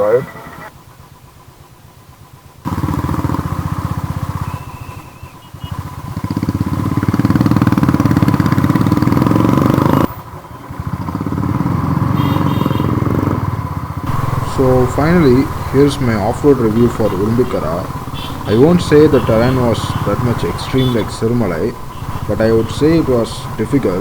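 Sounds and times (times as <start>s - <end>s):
motorcycle engine accelerating: 2.2s - 24.0s.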